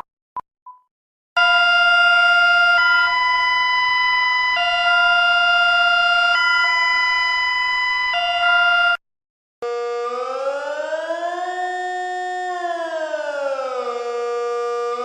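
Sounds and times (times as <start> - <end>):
rising siren wail: 1.4 - 9.0, 9.6 - 15.0.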